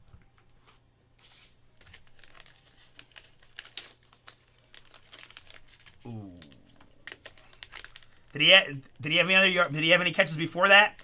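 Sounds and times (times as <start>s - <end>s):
card wrappers crinkling and tearing: 1.2s - 11.0s.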